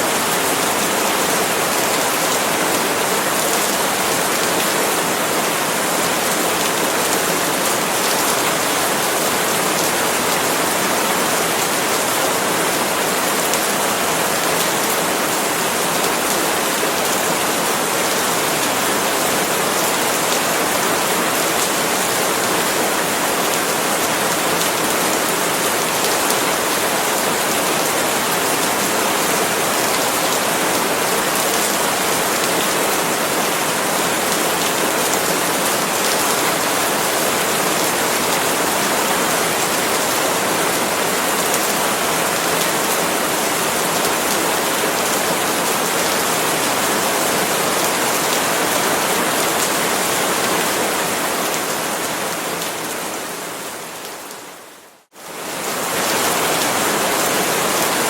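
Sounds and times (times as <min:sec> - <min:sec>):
rain on palm leaves: 0:00.0 - 0:58.0.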